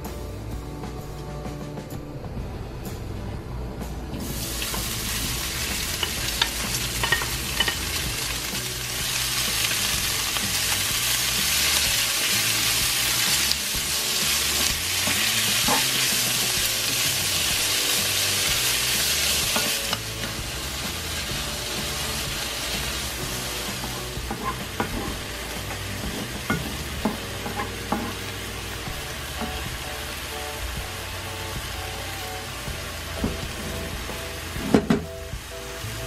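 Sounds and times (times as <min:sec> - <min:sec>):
food sizzling in a frying pan: 0:04.2 - 0:36.0.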